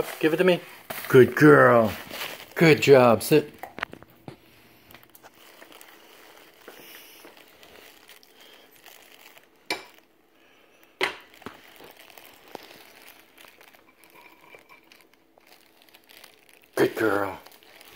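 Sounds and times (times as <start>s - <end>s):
soft crinkling and rustling: 0.0s - 17.9s.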